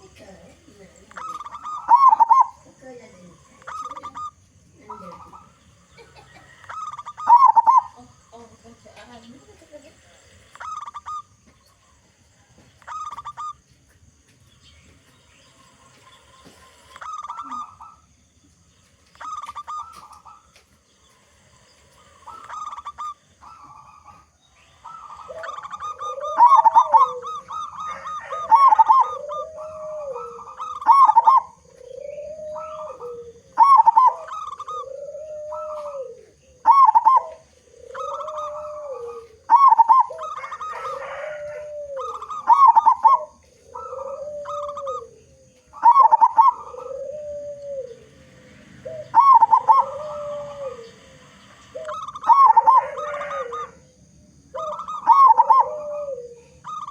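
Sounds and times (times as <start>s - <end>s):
dove cooing: 0.0s - 56.9s.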